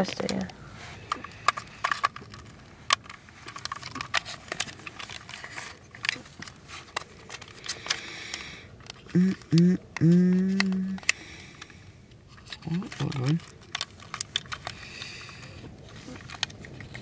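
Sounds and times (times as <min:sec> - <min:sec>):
faint rustle: 0:00.1 - 0:17.0
plastic and metal clicks: 0:00.1 - 0:17.0.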